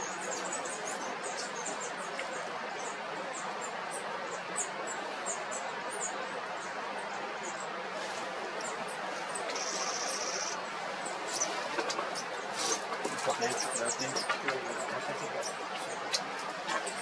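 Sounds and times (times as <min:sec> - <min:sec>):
outdoor background hiss: 0:00.0 - 0:17.0
small birds chirping: 0:00.0 - 0:17.0.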